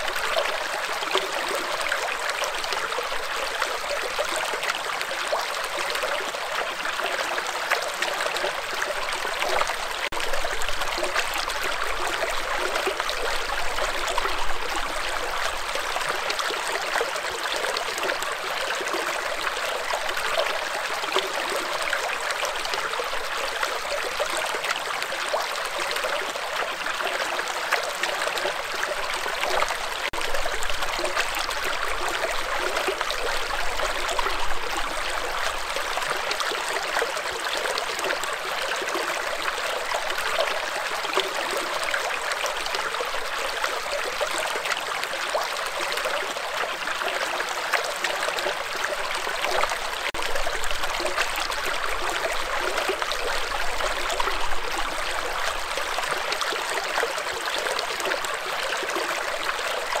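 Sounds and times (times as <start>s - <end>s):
stream rushing over rocks: 0.0s - 60.0s.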